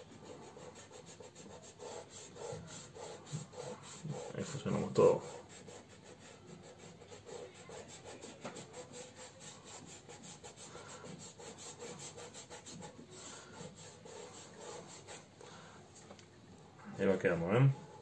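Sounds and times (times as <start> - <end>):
fingers rubbing pastel on paper: 0.0 - 15.3.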